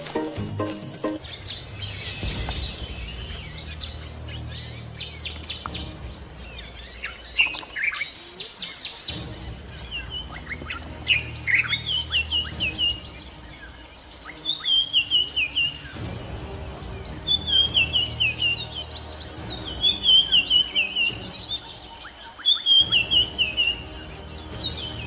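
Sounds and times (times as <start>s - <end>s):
birds chirping and trilling: 0.0s - 25.0s.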